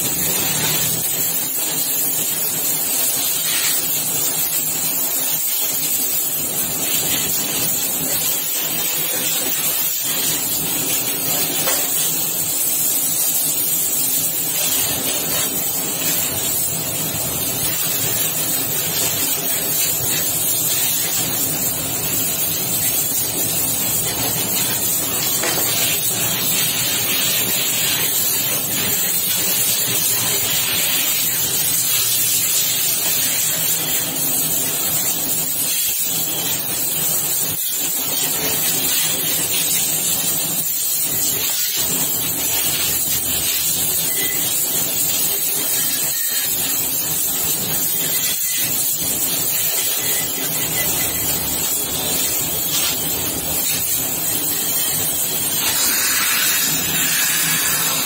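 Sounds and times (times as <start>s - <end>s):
steady loud hiss: 0.0s - 58.0s.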